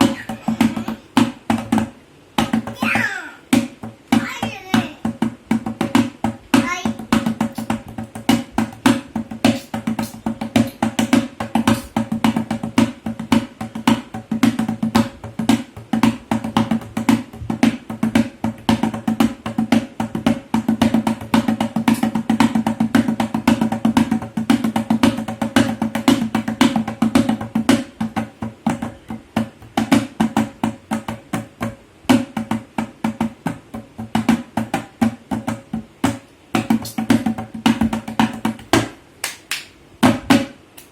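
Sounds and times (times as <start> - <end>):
tabla playing fast strokes: 0.0 - 39.0.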